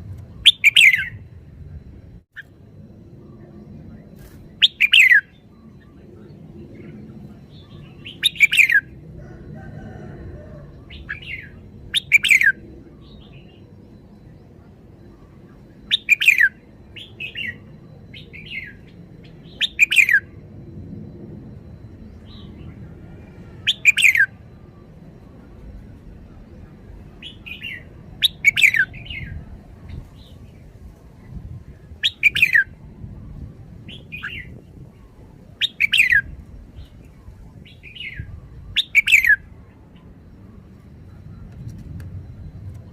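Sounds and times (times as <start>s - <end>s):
bird singing: 0.0s - 42.9s.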